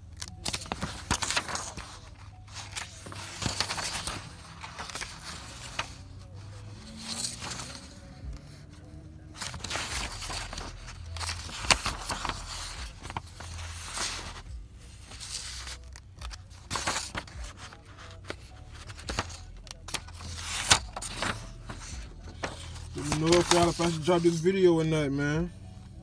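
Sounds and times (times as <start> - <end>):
paper rustling: 0.1 - 25.0.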